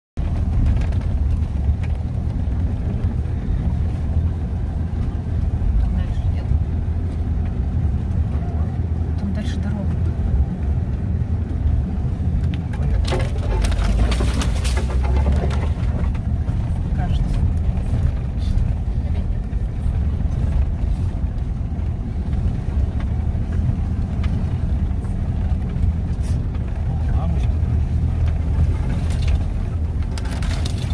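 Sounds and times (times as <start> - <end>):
off-road vehicle engine rumble: 0.2 - 30.9.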